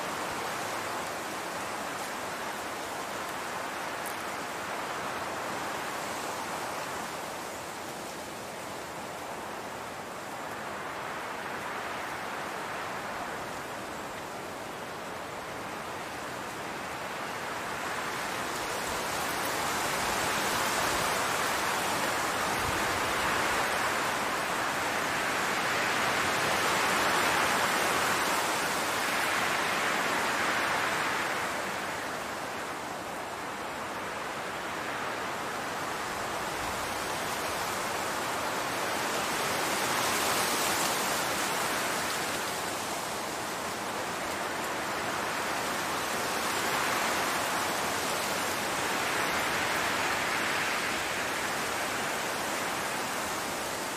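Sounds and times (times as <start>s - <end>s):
wind blowing across grass: 0.0s - 53.9s.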